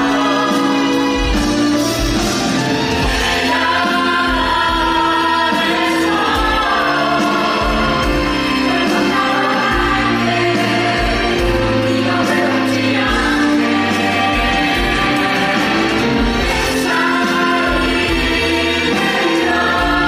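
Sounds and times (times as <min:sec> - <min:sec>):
band accompaniment: 0:00.0 - 0:20.0
cast singing in chorus: 0:03.0 - 0:20.0.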